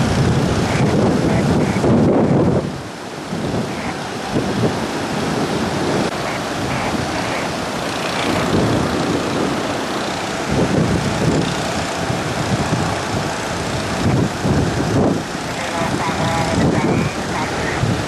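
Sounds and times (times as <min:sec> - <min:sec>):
heavy surf: 0:00.0 - 0:18.0
wind buffeting microphone: 0:00.0 - 0:18.0.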